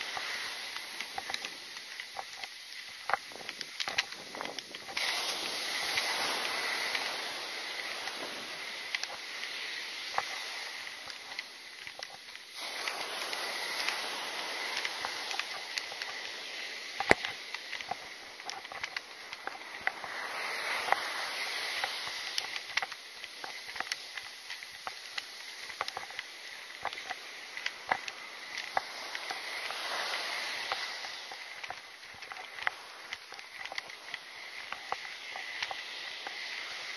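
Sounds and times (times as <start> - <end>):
ocean surf washing up: 0.0 - 36.9
small clicks: 0.0 - 36.9.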